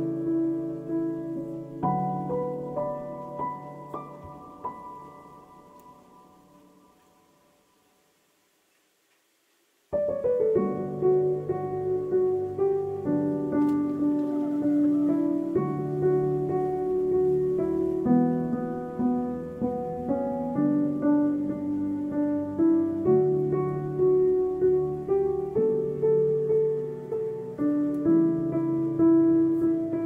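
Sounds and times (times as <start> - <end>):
slow piano melody: 0.0 - 8.2, 9.9 - 30.0.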